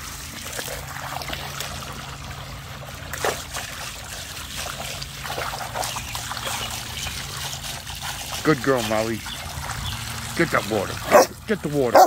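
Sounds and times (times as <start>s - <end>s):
hose spraying water into pool: 0.0s - 12.0s
sharp water splashes: 0.0s - 12.0s.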